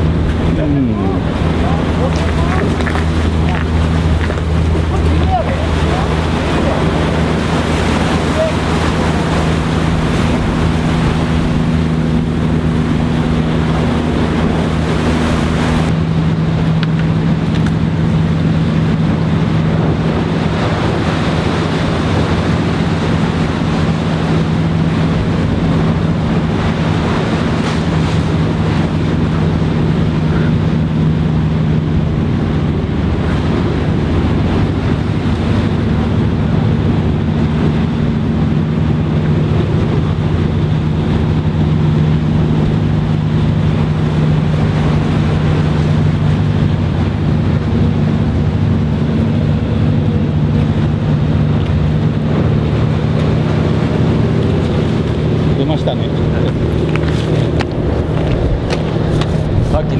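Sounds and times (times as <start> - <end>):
boat engine running: 0.0 - 59.9
water washing and splashing: 0.0 - 59.9.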